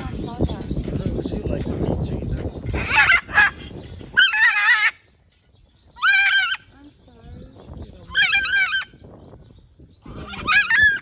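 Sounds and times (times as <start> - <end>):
birds squawking: 0.0 - 11.0.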